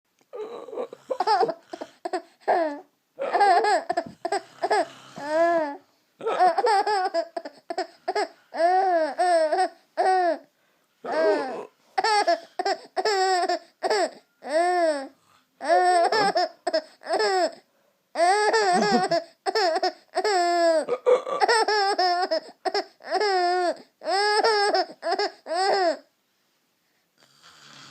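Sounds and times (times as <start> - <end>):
baby laughing: 1.1 - 10.4, 11.1 - 15.0, 15.6 - 17.6, 18.2 - 26.0.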